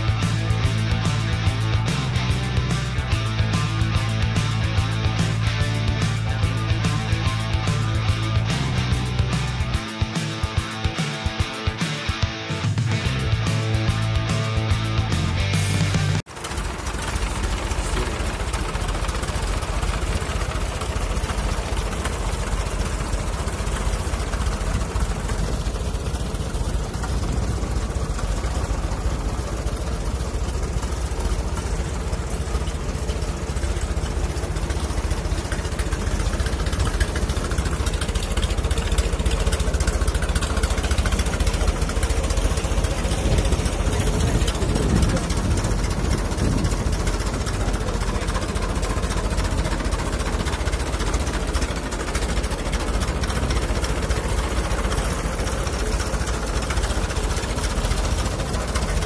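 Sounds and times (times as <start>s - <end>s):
old tractor engine idling: 0.0s - 59.0s.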